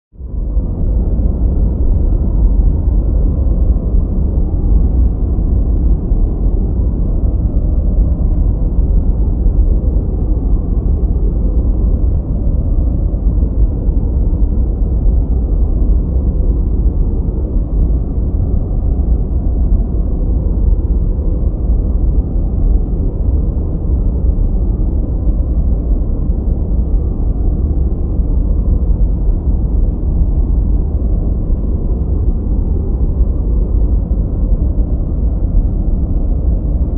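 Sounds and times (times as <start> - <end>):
deep brown noise: 0.1 - 36.9.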